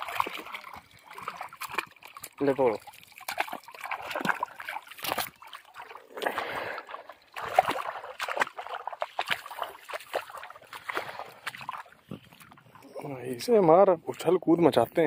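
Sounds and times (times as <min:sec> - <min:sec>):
sharp wet slaps: 0:00.0 - 0:12.4
footsteps wading through mud: 0:00.0 - 0:13.5
shallow water splashing: 0:00.0 - 0:14.3.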